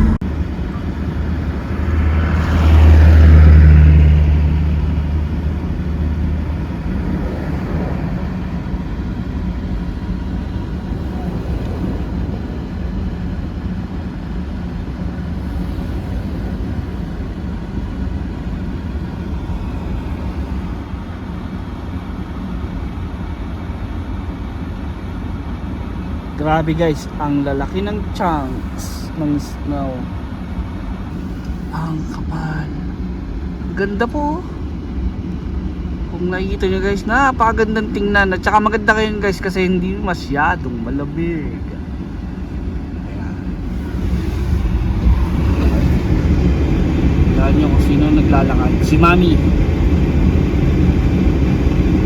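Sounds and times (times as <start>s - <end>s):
car engine and road noise: 0.0s - 52.0s
passing vehicle: 0.0s - 52.0s.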